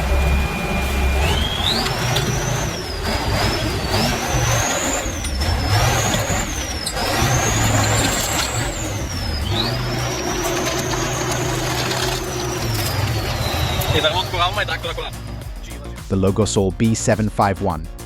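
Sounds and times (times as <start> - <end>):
diesel engine revving: 0.0 - 16.4.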